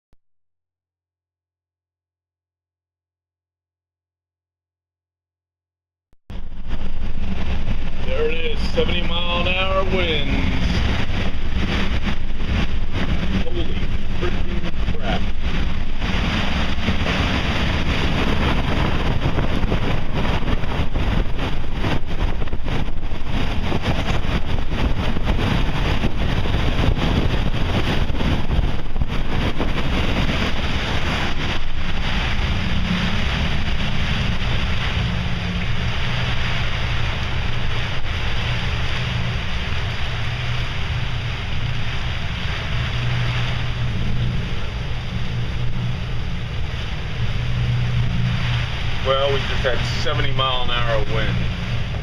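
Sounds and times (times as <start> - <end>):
low steady hum: 6.3 - 52.0
wind buffeting microphone: 6.3 - 52.0.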